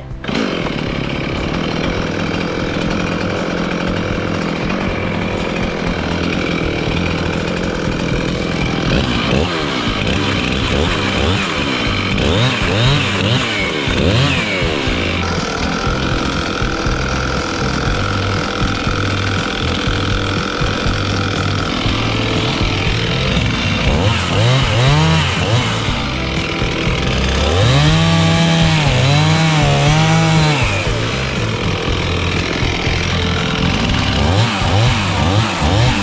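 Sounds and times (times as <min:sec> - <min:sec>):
chainsaw engine revving: 0:00.0 - 0:36.0.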